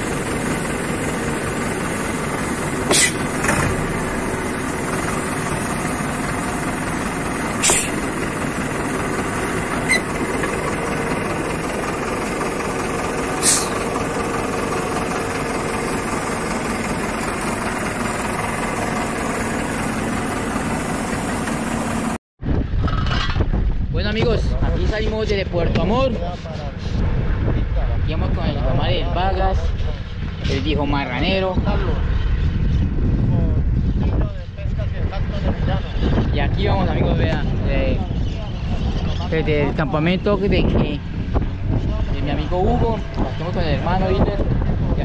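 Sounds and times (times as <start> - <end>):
engine running: 0.0 - 23.9, 24.6 - 45.0.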